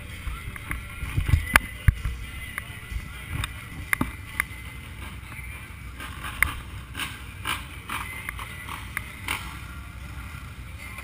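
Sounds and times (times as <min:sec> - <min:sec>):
atv engines idling: 0:00.0 - 0:11.0.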